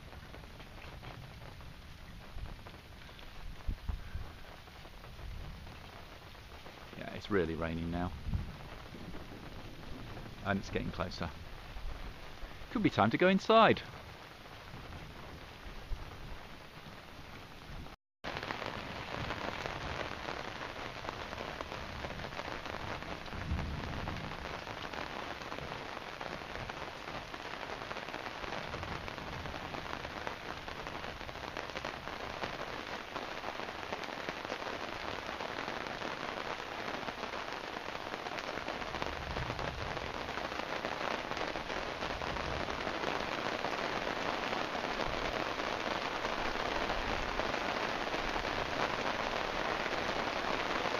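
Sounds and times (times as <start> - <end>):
thunder rumbling: 0.0 - 32.6, 37.9 - 50.9
heavy rain falling: 0.0 - 50.9.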